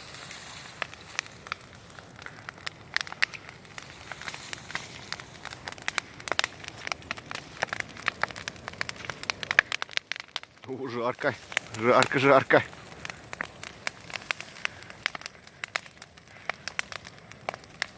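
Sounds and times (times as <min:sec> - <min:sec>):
bonfire crackling and popping: 0:00.0 - 0:17.9.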